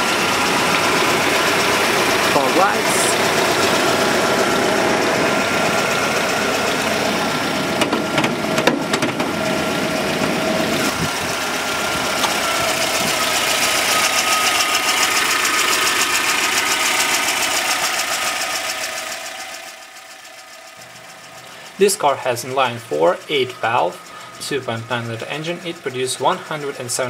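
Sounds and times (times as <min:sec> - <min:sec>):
petrol engine idling: 0:00.0 - 0:27.0.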